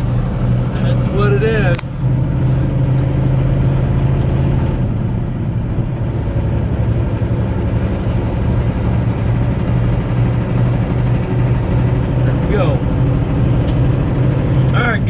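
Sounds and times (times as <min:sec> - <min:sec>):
road noise: 0:00.0 - 0:15.0
truck diesel engine running: 0:00.0 - 0:15.0.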